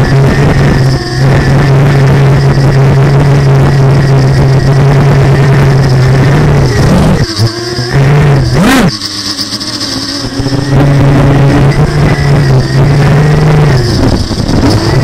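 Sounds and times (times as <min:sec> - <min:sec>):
quadcopter motors buzzing: 0:00.0 - 0:15.0.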